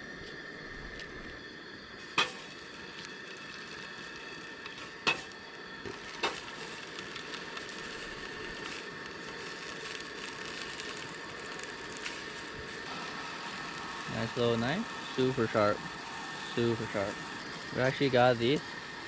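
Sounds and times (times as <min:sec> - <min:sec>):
camp stove burner hissing: 0:00.0 - 0:19.0.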